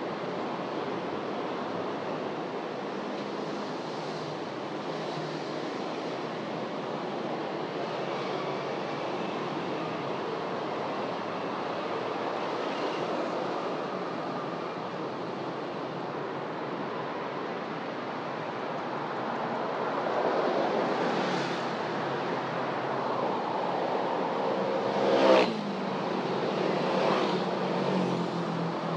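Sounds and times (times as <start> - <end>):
street traffic passing: 0.0 - 28.9.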